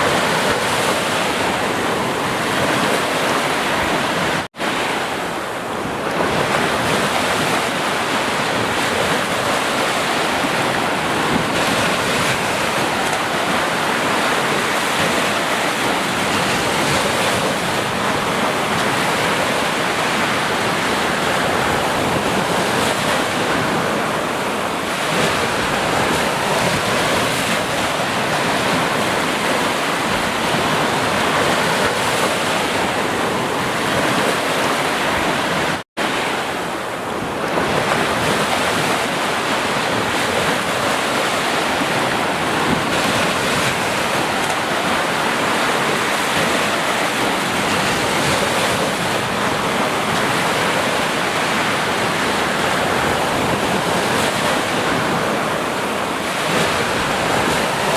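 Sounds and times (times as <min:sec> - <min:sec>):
waves breaking: 0:00.0 - 0:57.9.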